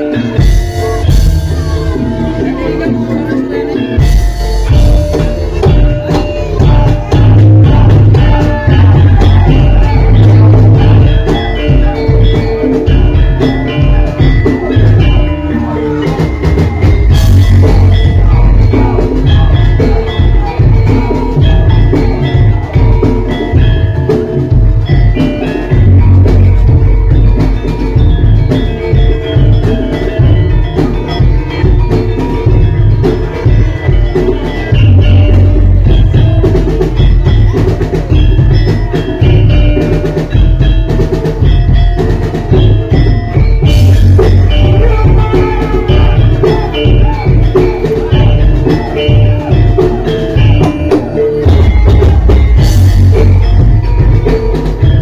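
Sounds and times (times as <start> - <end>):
metallophones ringing: 0.0 - 55.0
steady drumming: 0.0 - 55.0.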